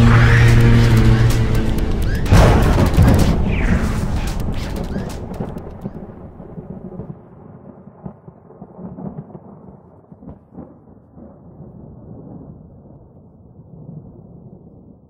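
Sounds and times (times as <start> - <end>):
deep thunder-like rumble: 0.0 - 15.0.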